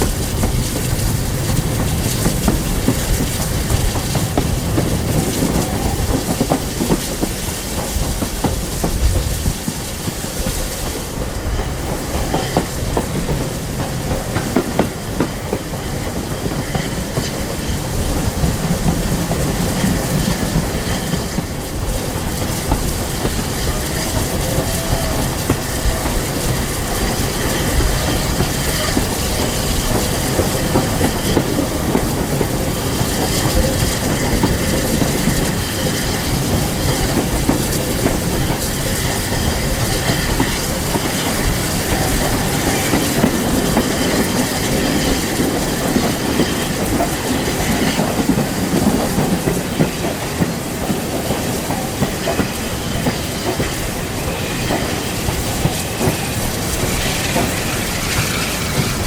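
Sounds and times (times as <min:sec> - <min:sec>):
train rumbling along track: 0:00.0 - 0:59.0
wheels clicking over rail joints: 0:00.0 - 0:59.0.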